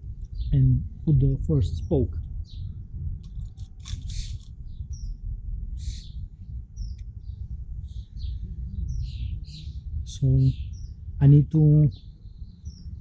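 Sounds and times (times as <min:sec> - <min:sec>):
steady low rumble: 0:00.0 - 0:13.0
small birds chirping: 0:00.1 - 0:13.0.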